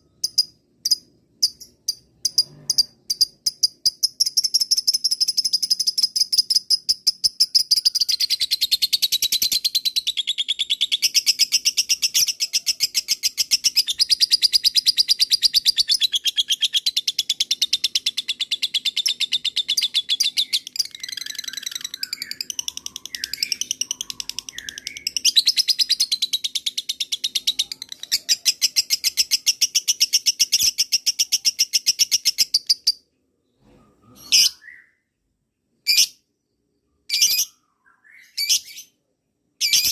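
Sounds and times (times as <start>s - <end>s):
bird chirps: 0.0s - 39.9s.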